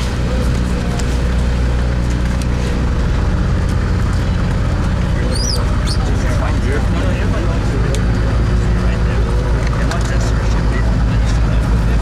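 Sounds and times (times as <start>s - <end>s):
boat engine droning: 0.0s - 12.0s
wind: 0.0s - 12.0s.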